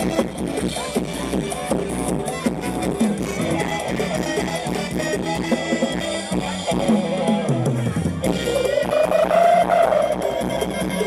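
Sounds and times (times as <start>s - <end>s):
loud band music over sound system: 0.0s - 11.0s.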